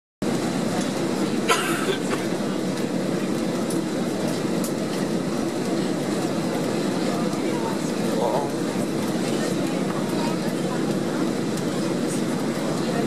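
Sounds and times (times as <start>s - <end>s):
airplane cabin airflow and engines: 0.2s - 13.0s.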